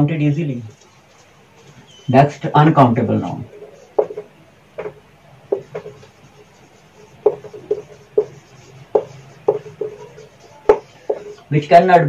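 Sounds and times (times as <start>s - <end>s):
marker squeaking on whiteboard: 0.7s - 2.2s, 3.2s - 11.5s.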